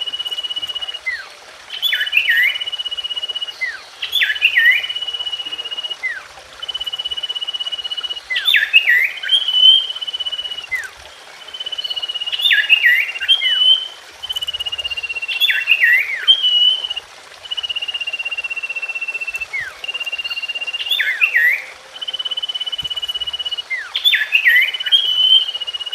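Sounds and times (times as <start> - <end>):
bird singing buzzy trills: 0.0 - 25.9.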